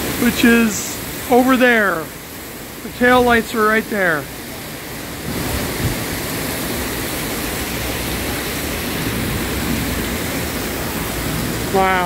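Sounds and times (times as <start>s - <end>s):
heavy rain pouring on pavement: 0.0s - 12.0s.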